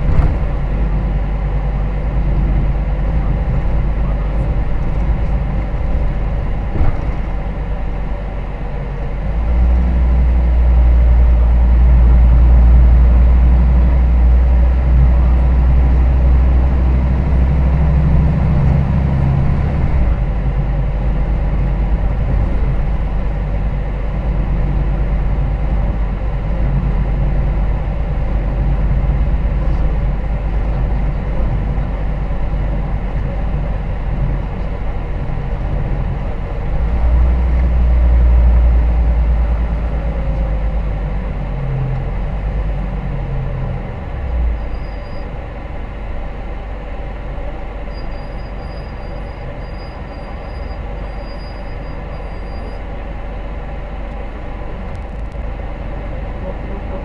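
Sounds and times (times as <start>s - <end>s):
bus diesel engine: 0.0s - 57.0s
road rumble: 0.0s - 57.0s.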